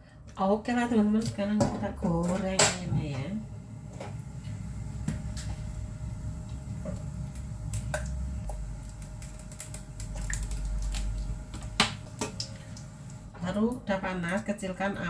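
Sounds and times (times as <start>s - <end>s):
gas burner rumble: 0.0s - 15.0s.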